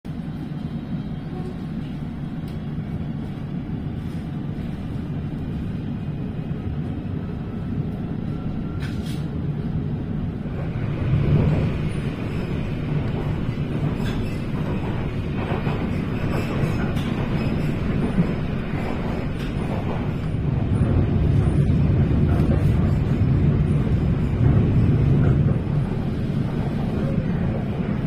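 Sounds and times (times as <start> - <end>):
train rumbling on rails: 0.1 - 28.0.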